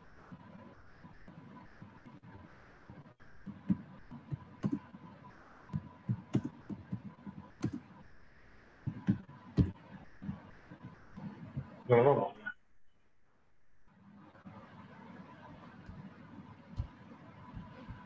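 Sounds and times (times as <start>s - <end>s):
faint steady tone: 0.0s - 18.0s.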